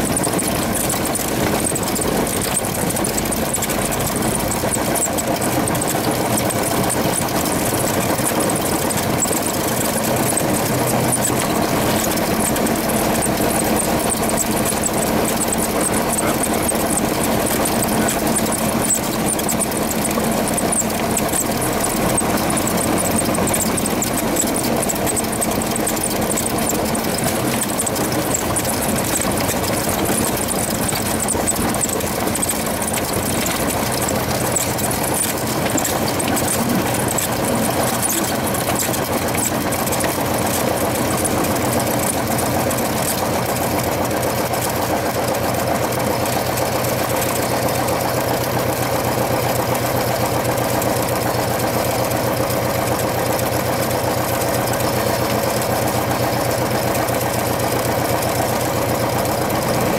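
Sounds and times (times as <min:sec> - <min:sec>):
small plane engine and propeller: 0:00.0 - 0:59.9.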